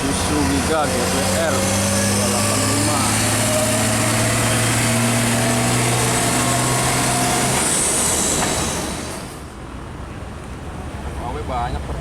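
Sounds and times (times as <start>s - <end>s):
heavy truck driving past: 0.0s - 9.9s
road noise: 0.0s - 12.0s.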